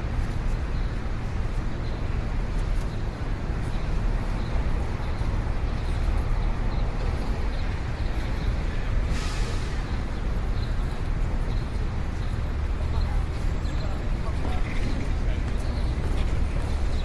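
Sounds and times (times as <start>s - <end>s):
rumble of passing traffic: 0.0s - 17.0s.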